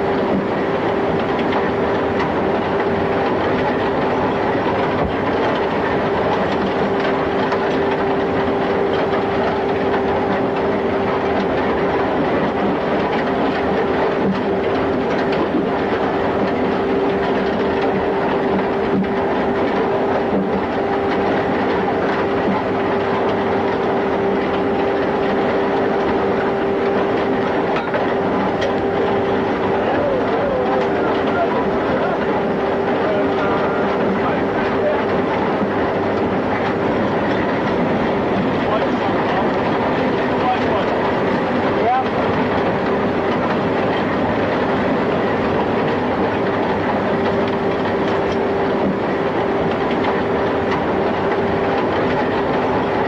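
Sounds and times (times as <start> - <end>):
mining machinery running: 0.0 - 53.0.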